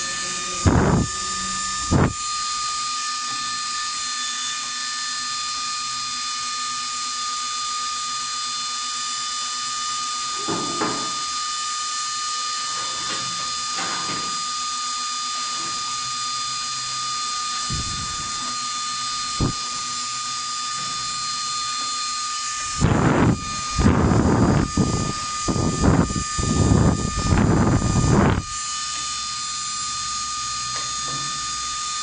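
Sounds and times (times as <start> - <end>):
blower fan whining: 0.0 - 32.0.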